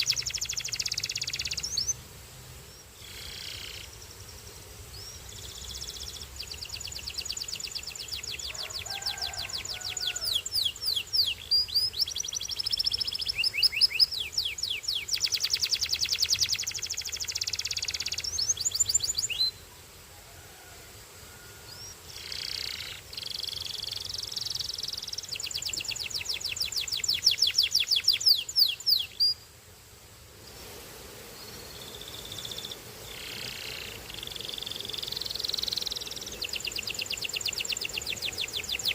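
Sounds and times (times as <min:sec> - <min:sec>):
canary singing trills: 0:00.0 - 0:02.0, 0:05.0 - 0:19.6, 0:21.7 - 0:29.4, 0:31.8 - 0:38.9.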